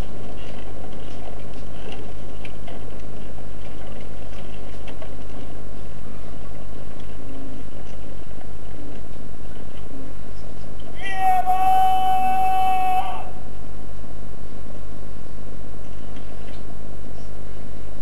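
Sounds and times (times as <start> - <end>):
heavy low hum: 0.0 - 18.0.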